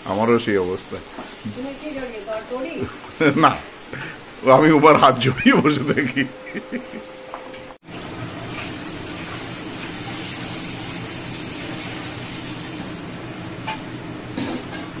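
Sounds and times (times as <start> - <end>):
masala sizzling in wok: 0.0 - 15.0.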